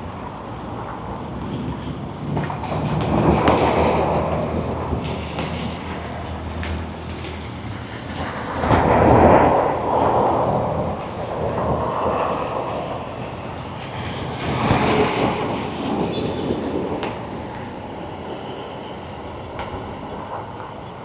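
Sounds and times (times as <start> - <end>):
rushing roaring storm: 0.0 - 21.0.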